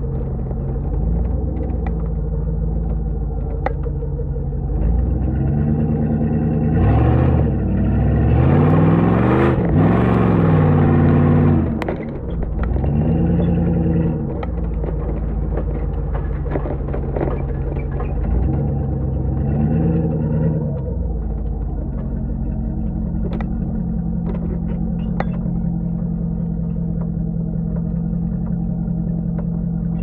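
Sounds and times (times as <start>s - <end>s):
car engine rumbling and revving: 0.0s - 30.0s.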